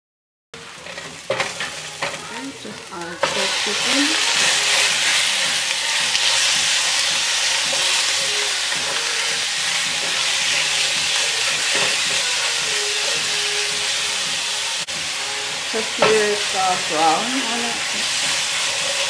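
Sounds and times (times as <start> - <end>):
spoon stirring in pan: 0.6 - 13.3, 13.9 - 19.0
meat sizzling in oil: 0.6 - 19.0.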